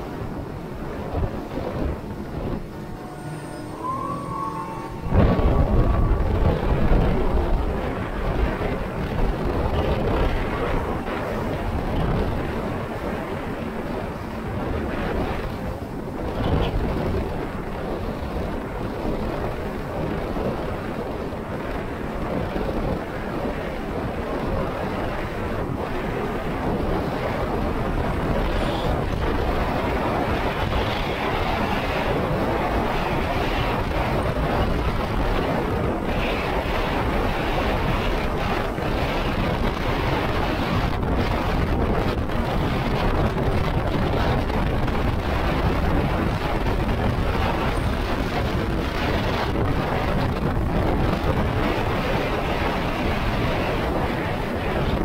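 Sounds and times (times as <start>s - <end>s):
water rushing along hull: 0.0s - 55.0s
wind on microphone: 0.0s - 55.0s.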